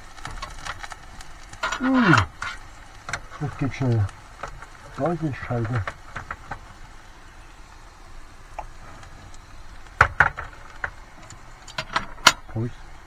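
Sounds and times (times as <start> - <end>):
camping stove hissing: 0.0 - 13.0.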